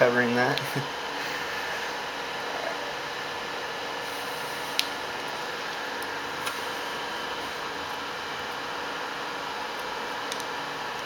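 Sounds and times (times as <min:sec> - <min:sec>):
fan-like hiss: 0:00.0 - 0:11.0.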